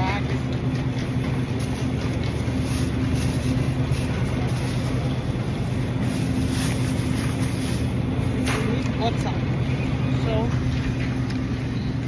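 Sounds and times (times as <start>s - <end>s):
refrigeration hum: 0.0s - 12.0s.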